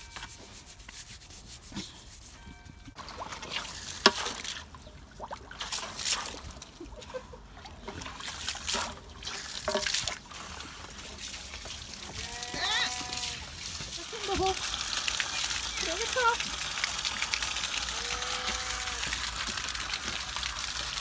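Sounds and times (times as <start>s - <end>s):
pigs splashing in water: 3.0s - 21.0s.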